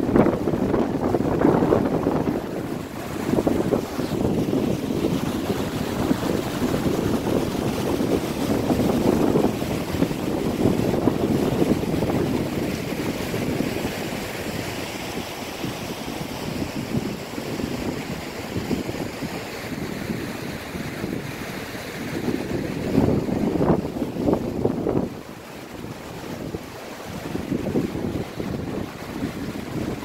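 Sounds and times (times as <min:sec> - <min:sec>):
mountain stream rushing: 0:00.0 - 0:30.0
wind buffeting microphone: 0:00.0 - 0:30.0.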